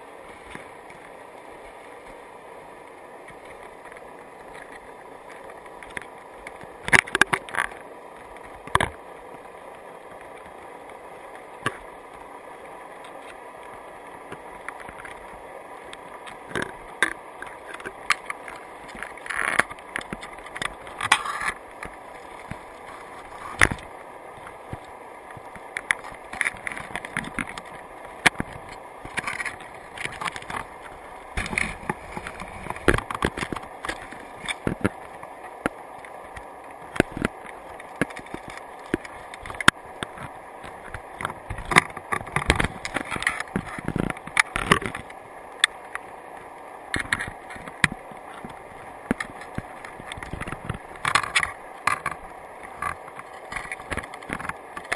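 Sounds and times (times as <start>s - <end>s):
crab shells clicking and scraping: 3.6s - 9.0s, 14.2s - 46.1s, 46.9s - 54.9s.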